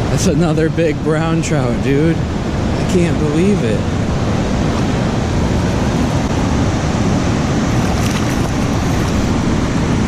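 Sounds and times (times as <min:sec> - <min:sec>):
river current rushing: 0:00.0 - 0:10.0.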